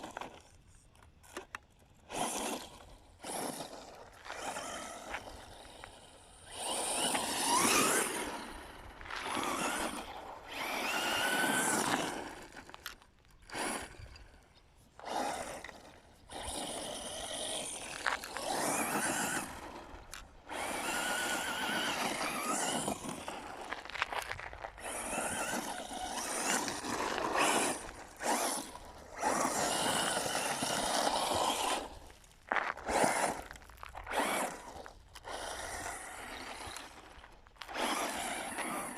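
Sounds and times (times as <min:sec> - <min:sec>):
electric rc buggy motor whining: 0:00.0 - 0:38.9
tyres scrabbling over gravel: 0:00.0 - 0:38.9.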